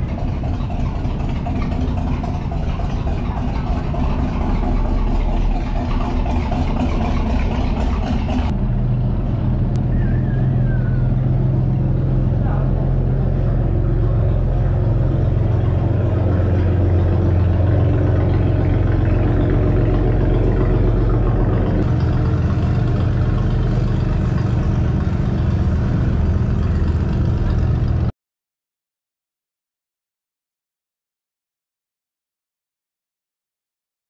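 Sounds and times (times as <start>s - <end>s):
boat engines running low speed: 0.0s - 28.1s.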